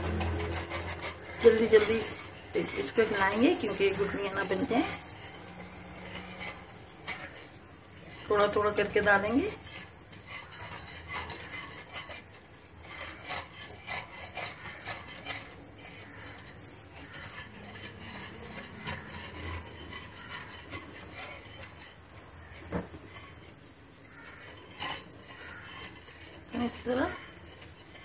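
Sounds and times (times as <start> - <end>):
utensil stirring liquid in a pot: 0.0 - 28.0.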